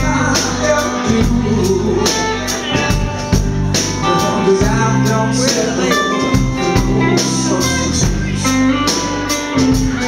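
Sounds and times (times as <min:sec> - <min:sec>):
bass: 0:00.0 - 0:10.0
drums: 0:00.0 - 0:10.0
electric guitar: 0:00.0 - 0:10.0.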